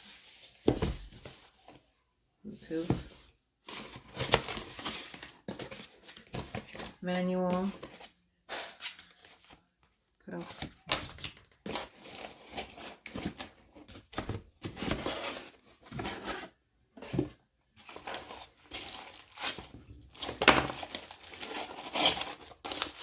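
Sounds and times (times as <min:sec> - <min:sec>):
packaging rustling and crinkling: 0:02.9 - 0:09.7, 0:10.5 - 0:23.0.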